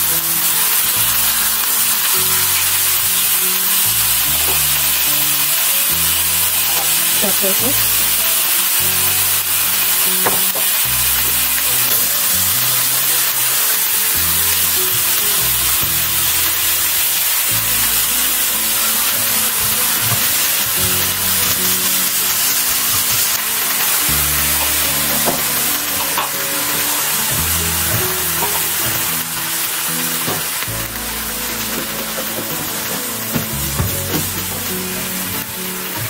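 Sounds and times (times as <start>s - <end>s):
background music: 0.0s - 36.0s
food sizzling in pan: 0.0s - 36.0s.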